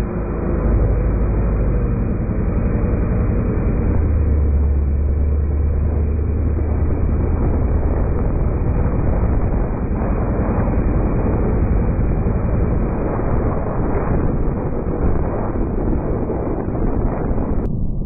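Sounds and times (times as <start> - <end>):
low drone: 0.0 - 18.0
road and engine noise: 0.0 - 18.0
wind rushing over microphone: 0.0 - 18.0.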